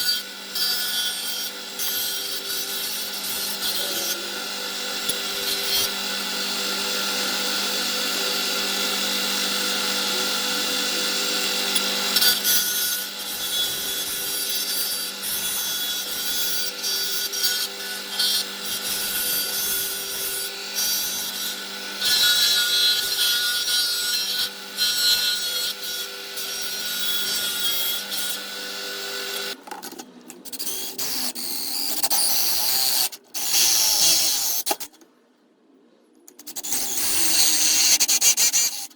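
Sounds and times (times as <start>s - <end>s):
grinder cutting metal: 0.0s - 29.6s, 30.5s - 35.0s, 36.4s - 38.9s.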